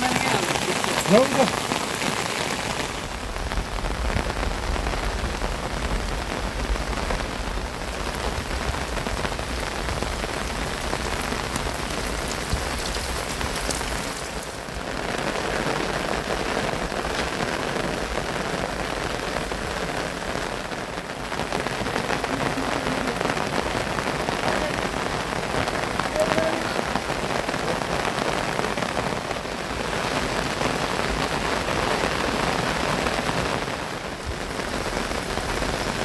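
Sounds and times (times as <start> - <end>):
heavy rain on surfaces: 0.0 - 36.0.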